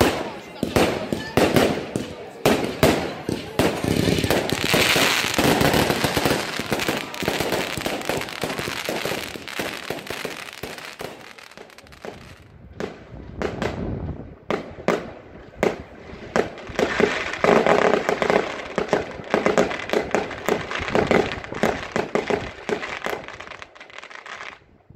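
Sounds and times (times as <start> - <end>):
fireworks crackling and banging: 0.0 - 24.8.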